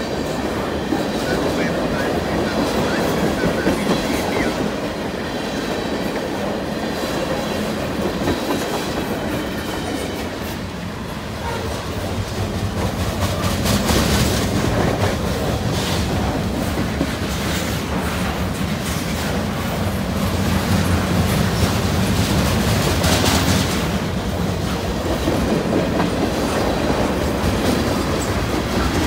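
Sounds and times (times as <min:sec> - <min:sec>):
clickety-clack over rail joints: 0:00.0 - 0:29.0
train wheels rumbling on rail: 0:00.0 - 0:29.0.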